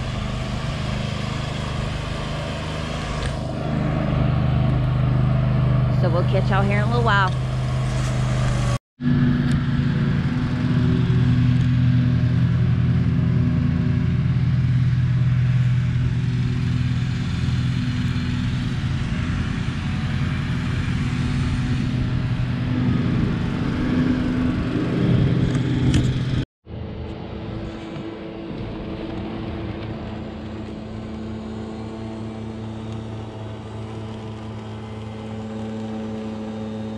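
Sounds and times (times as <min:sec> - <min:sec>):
engine humming: 0:00.0 - 0:36.9
quieter engine hum: 0:00.0 - 0:36.9.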